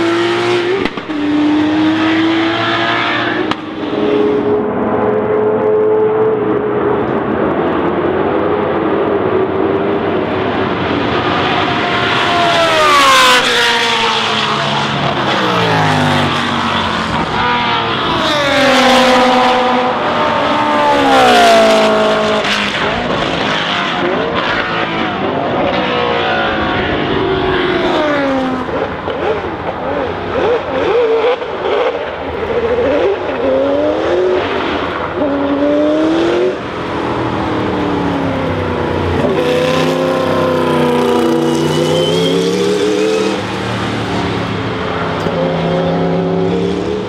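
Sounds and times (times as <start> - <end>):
racing cars passing: 0.0 - 47.0.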